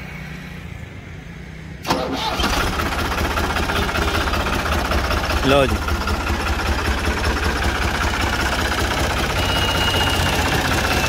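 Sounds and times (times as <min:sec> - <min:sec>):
tractor diesel engine starting: 0:01.8 - 0:11.0.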